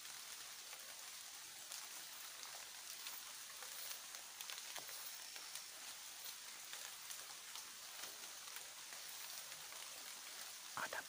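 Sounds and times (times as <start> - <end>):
rainforest hiss: 0.0 - 11.0
small ticks: 0.6 - 11.0.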